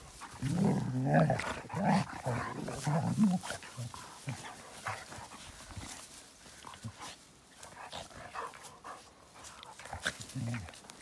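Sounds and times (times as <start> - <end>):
rustling and scuffling in grass: 0.0 - 11.0
soft dog noises: 0.0 - 11.0.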